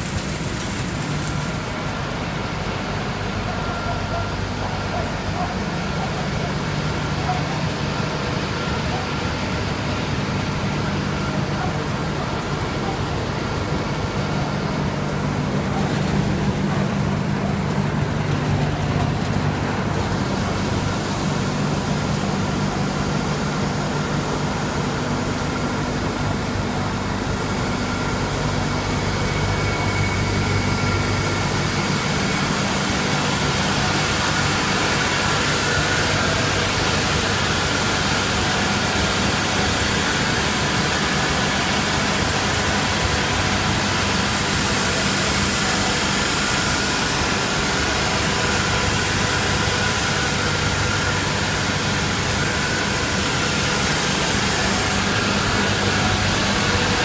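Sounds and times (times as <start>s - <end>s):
cleaning machine running: 0.0s - 57.0s.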